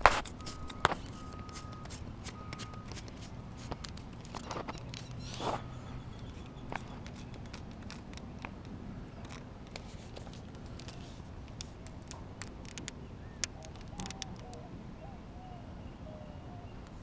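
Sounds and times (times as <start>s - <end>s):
fishing reel clicks and rustle: 0.0s - 14.6s.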